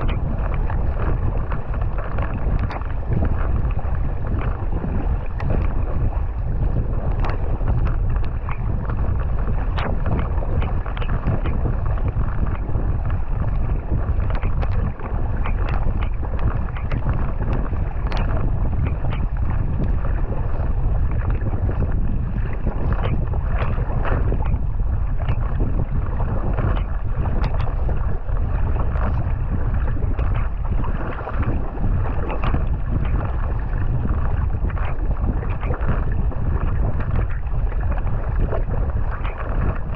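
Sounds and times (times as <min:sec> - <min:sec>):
paddle strokes splashing: 0:00.0 - 0:39.9
water rushing along hull: 0:00.0 - 0:39.9
wind noise on microphone: 0:00.0 - 0:39.9.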